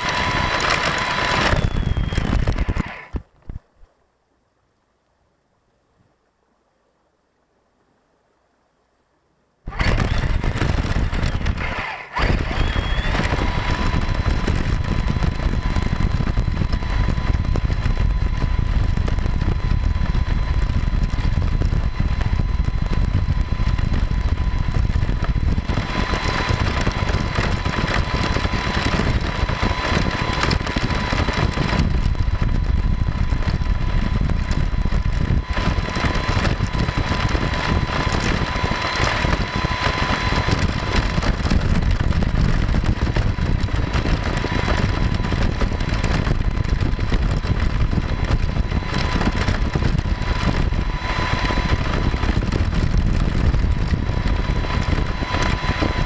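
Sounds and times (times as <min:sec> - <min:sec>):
thin steady whine: 0:00.0 - 0:56.0.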